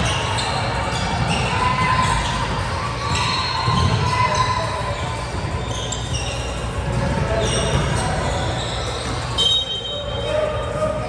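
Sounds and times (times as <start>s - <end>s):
shoe squeaks: 0.0s - 11.0s.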